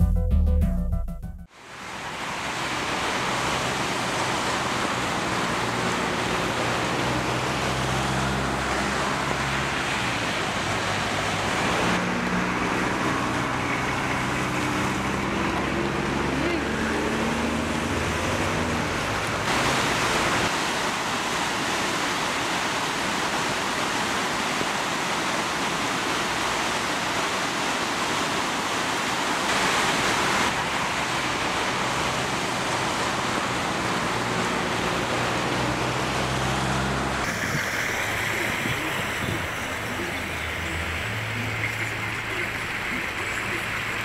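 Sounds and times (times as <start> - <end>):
fast-running floodwater: 1.5 - 44.0
heavy rain: 1.5 - 44.0.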